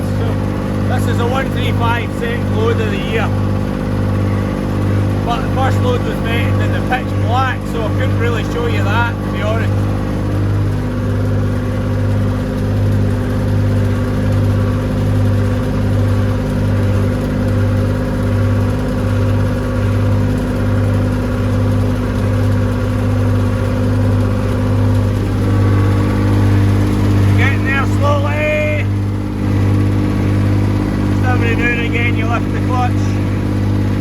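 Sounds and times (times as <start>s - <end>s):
feed wagon chain and beaters: 0.0s - 34.0s
tractor diesel engine running: 0.0s - 34.0s.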